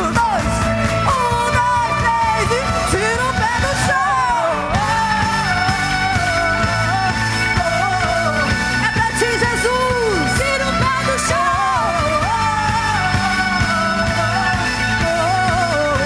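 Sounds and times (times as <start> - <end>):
live rock band playing: 0.0 - 16.0
person singing: 0.0 - 16.0.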